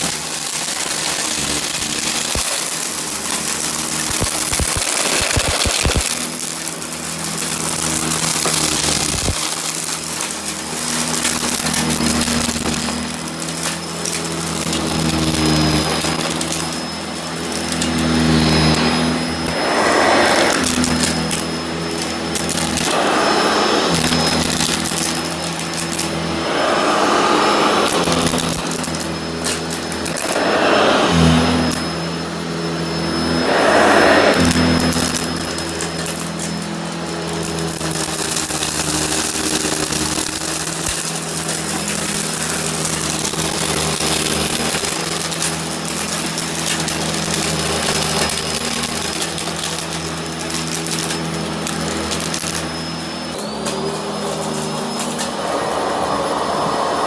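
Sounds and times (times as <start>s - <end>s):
vacuum cleaner running on carpet: 0.0s - 57.0s
vacuum cleaner rushing swell: 0.0s - 57.0s.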